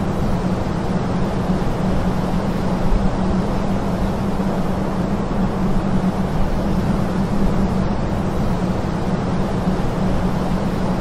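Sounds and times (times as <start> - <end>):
constant low hum: 0.0 - 11.0
mechanical rushing drone: 0.0 - 11.0.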